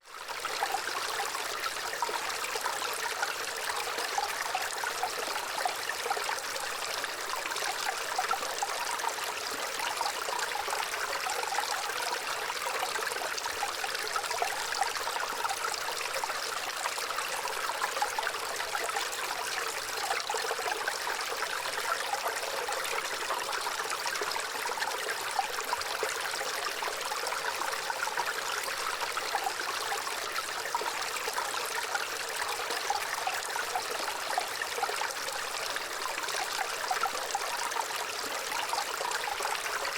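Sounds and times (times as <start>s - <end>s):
small stream babbling: 0.0s - 39.9s.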